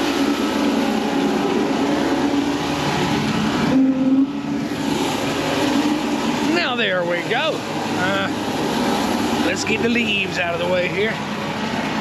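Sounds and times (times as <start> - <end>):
pressure washer engine: 0.0 - 12.0
water spray hissing on concrete: 0.0 - 12.0.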